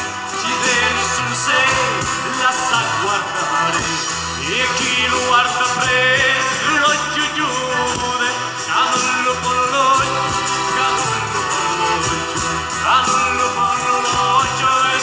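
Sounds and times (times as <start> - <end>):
live folk band playing: 0.0 - 15.0.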